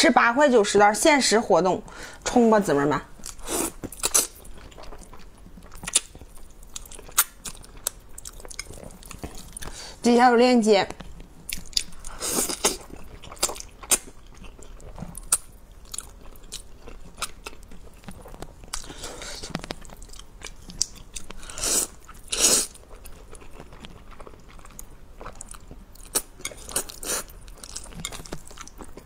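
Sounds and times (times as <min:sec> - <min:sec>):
wet chewing and smacking: 0:03.2 - 0:09.8, 0:11.0 - 0:29.0.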